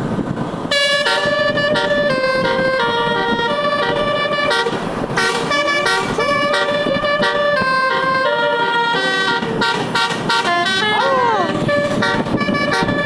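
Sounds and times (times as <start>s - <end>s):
multi-tone bus horn melody: 0.6s - 13.0s.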